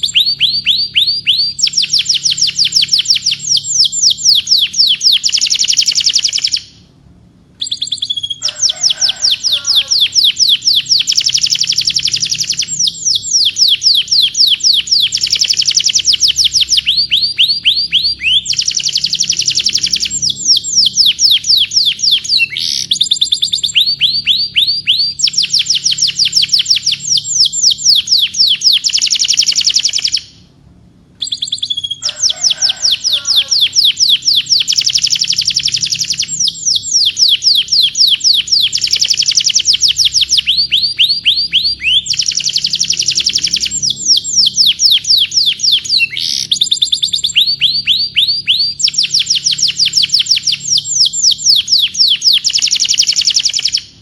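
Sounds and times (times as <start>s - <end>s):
canary singing trills: 0.0s - 7.0s, 7.6s - 30.6s, 31.2s - 54.0s.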